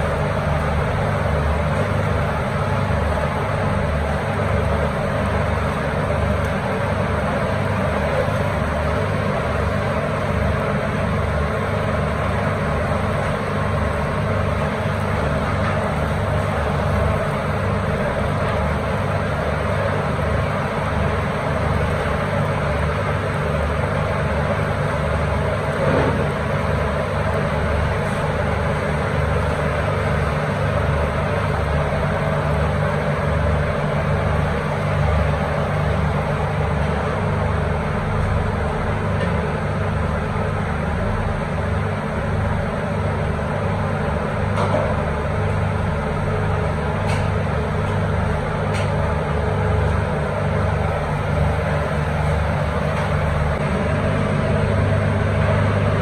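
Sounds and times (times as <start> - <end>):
grill equipment roaring: 0.0 - 56.0.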